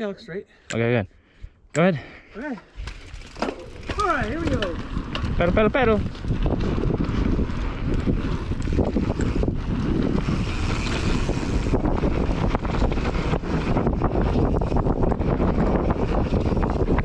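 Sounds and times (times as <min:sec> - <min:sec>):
bike clattering and rattling: 0:02.4 - 0:17.0
tyres rolling on dirt: 0:02.8 - 0:17.0
wind noise on microphone: 0:02.8 - 0:17.0.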